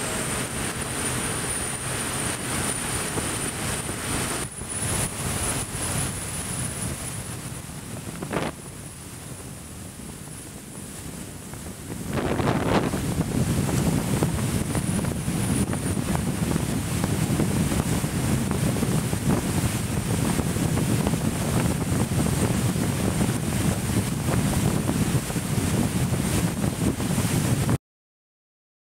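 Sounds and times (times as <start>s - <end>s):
boat engine rumble: 0.0s - 27.8s
rushing water: 0.0s - 27.8s
wind buffeting microphone: 0.0s - 27.8s.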